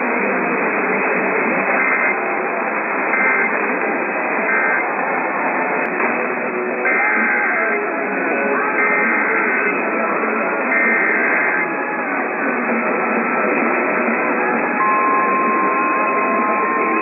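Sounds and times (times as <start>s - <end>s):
faint broadcast tones: 0.0s - 17.0s
radio static: 0.0s - 17.0s.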